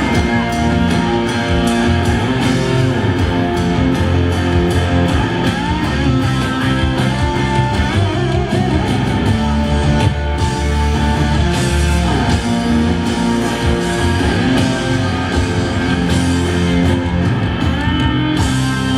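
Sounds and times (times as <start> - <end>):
country-rock band playing: 0.0 - 18.9
electric guitars: 0.0 - 18.9.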